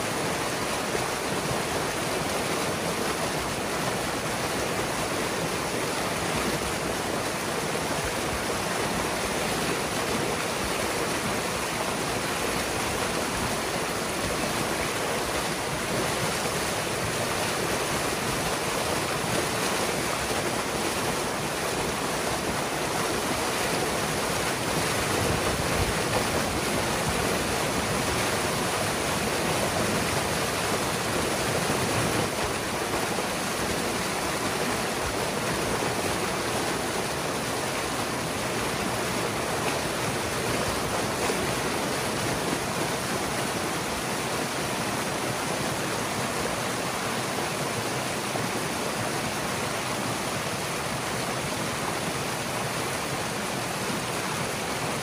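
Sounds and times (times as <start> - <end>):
water rushing and splashing: 0.0 - 55.0.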